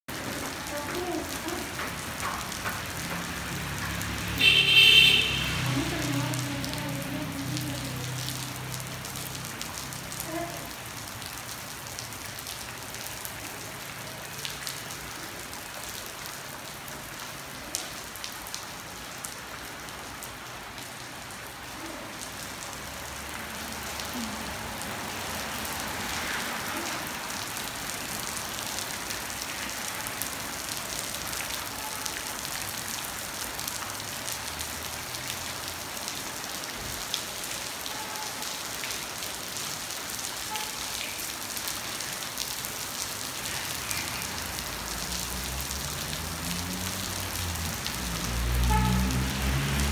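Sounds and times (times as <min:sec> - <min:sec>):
steady rain on a street: 0:00.1 - 0:49.9.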